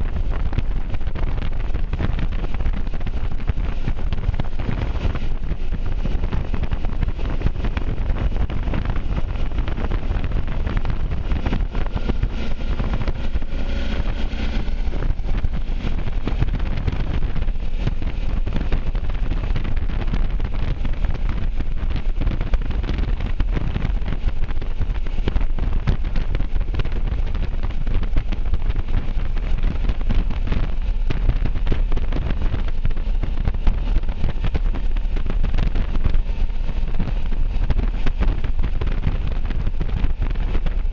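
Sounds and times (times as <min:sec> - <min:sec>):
motorcycle engine and road rumble: 0:00.0 - 0:40.9
wind buffeting microphone: 0:00.0 - 0:40.9.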